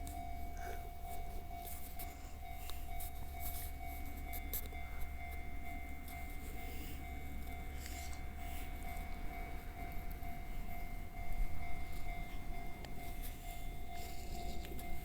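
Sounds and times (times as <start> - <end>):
level-crossing warning bell: 0.0 - 15.0.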